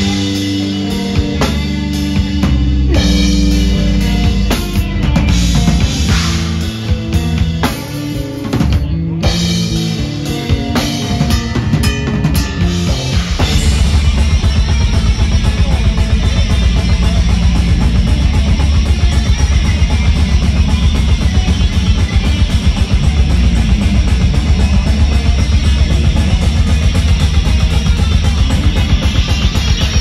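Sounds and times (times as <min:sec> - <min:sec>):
fast continuous drumming: 0:00.0 - 0:30.0
metal band playing: 0:00.0 - 0:30.0.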